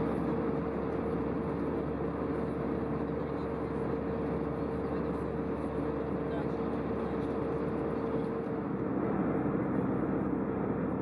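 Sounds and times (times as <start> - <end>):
airplane cabin engine and airflow rush: 0.0 - 11.0
mid-pitched hum: 0.0 - 11.0.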